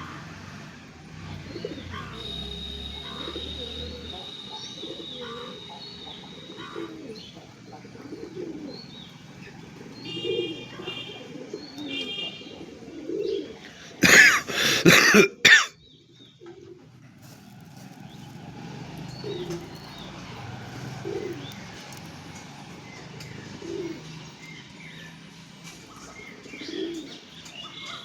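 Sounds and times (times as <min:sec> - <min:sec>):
small birds chirping: 0:01.3 - 0:13.9, 0:15.8 - 0:28.0
pigeons cooing: 0:01.3 - 0:24.6, 0:25.9 - 0:28.0.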